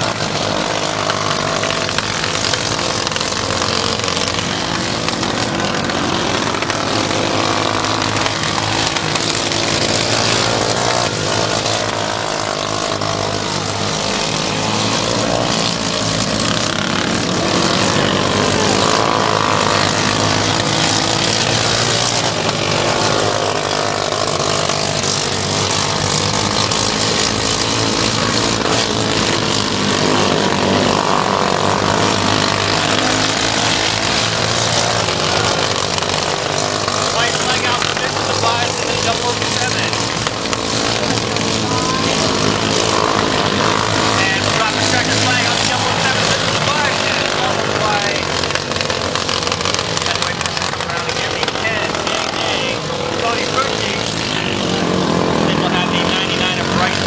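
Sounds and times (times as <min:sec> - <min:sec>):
race car engines lapping: 0:00.0 - 0:57.0.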